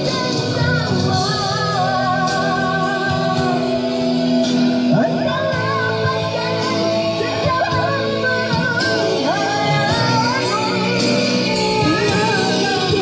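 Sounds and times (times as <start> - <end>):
song with singing voice: 0.0 - 13.0.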